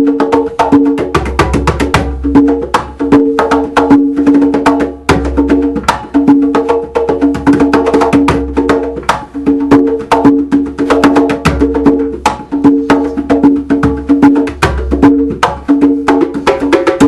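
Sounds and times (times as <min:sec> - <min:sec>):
rapid hand percussion: 0:00.0 - 0:17.0.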